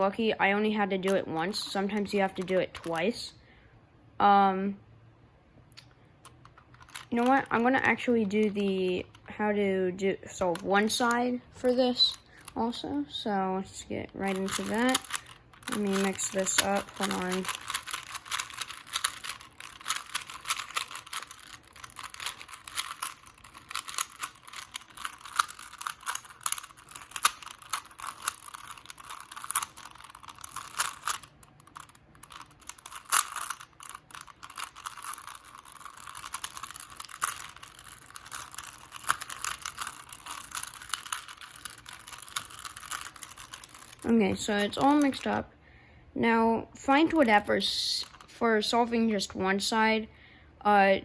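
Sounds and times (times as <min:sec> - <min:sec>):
puzzle cube clicking and rattling: 0:00.9 - 0:03.2, 0:05.8 - 0:13.0, 0:14.0 - 0:45.4, 0:47.0 - 0:48.8.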